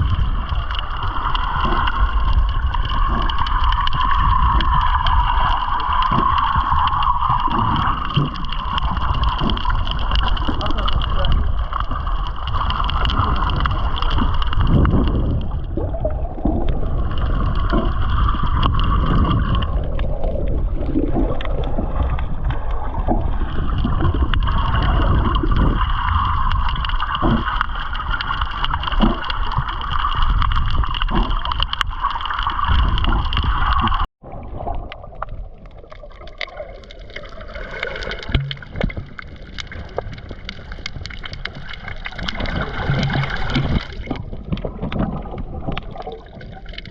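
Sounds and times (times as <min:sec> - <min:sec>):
water churning and gurgling: 0:00.0 - 0:46.9.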